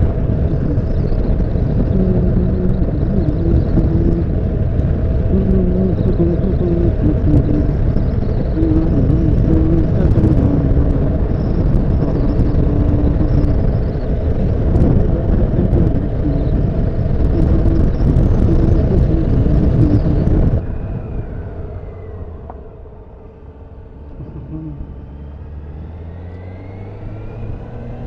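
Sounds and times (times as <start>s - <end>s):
motorcycle engine: 0.0s - 28.0s
wind rumble on microphone: 0.0s - 28.0s.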